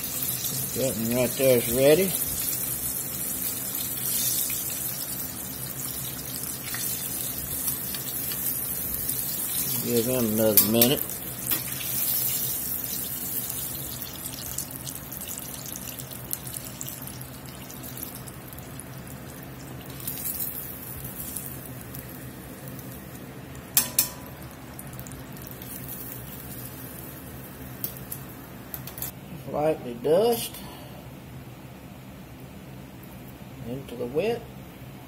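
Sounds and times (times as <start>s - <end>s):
deep-frying sizzle and crackle: 0.0s - 29.1s.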